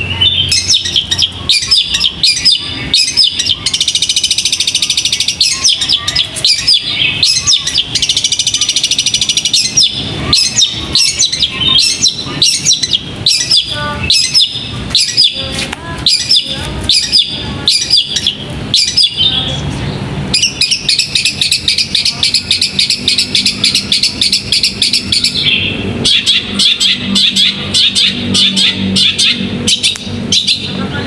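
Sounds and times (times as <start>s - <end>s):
songbird chirping and whistling: 0.0s - 19.6s, 20.3s - 30.8s.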